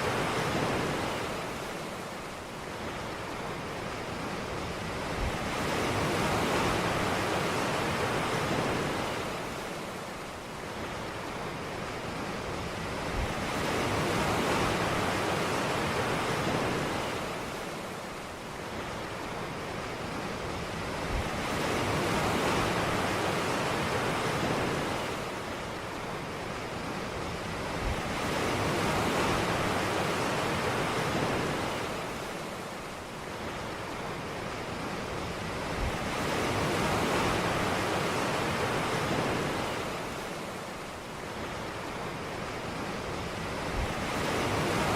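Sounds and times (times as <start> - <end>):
ocean waves breaking on beach: 0.0 - 44.9.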